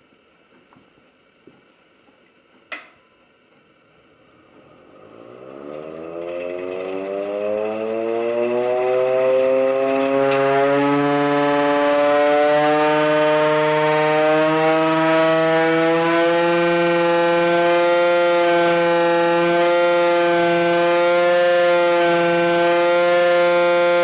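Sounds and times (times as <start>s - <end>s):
air raid siren wailing: 4.7s - 24.0s.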